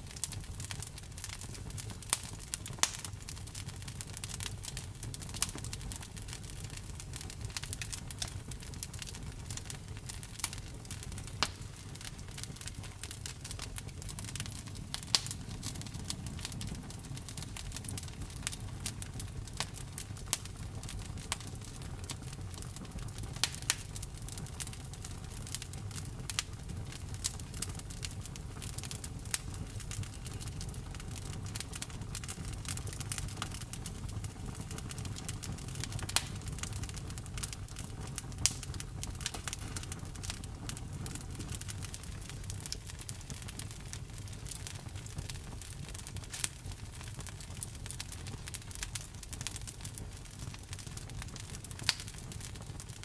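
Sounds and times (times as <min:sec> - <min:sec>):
low rumble of fire: 0:00.0 - 0:53.0
wood fire crackling and popping: 0:00.0 - 0:53.0.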